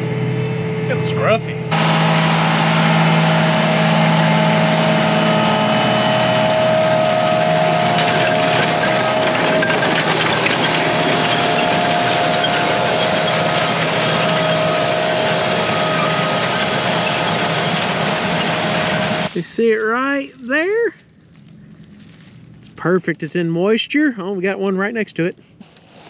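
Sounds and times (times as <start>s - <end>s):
high whine: 0.0s - 22.0s
tractor engine running: 0.0s - 25.8s.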